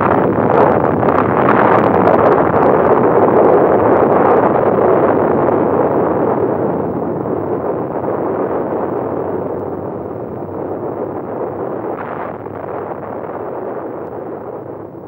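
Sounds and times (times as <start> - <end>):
rushing rumbling noise: 0.0 - 15.0.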